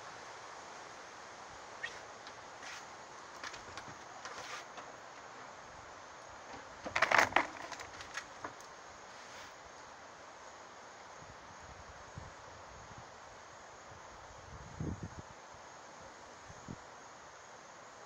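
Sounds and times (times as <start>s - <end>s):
steady wind: 0.0s - 18.0s.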